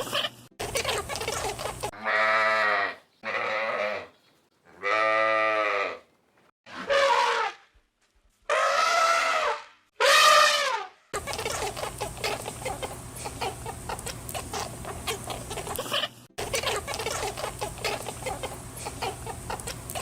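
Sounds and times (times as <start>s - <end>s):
farm animal calling: 0.0s - 7.6s, 8.5s - 20.0s.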